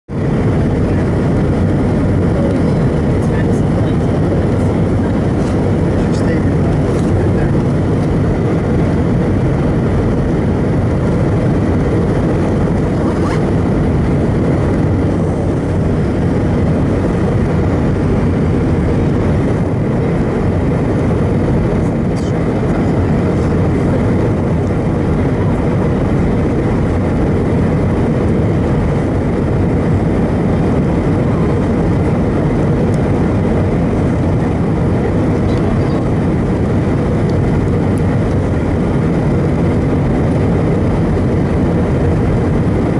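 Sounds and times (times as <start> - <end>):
airplane cabin engine noise: 0.0 - 42.9
faint steady whine: 0.1 - 42.9.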